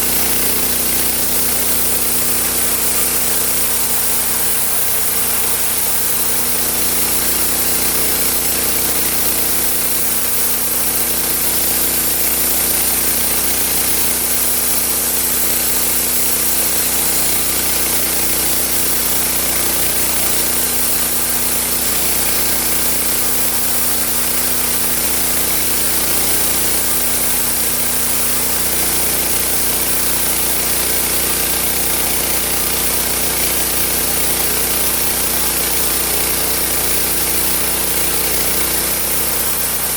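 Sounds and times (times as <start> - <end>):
sawing wood: 0.0 - 39.9.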